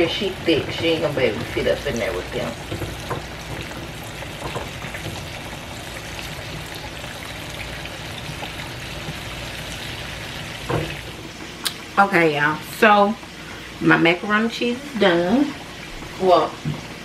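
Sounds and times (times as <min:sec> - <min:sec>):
fish deep-frying in hot oil: 0:00.0 - 0:17.0.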